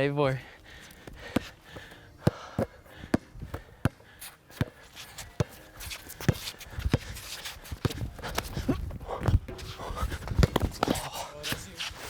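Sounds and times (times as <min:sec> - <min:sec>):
footsteps shuffling: 0:00.3 - 0:12.0
basketball bouncing: 0:01.0 - 0:07.2, 0:07.8 - 0:11.7.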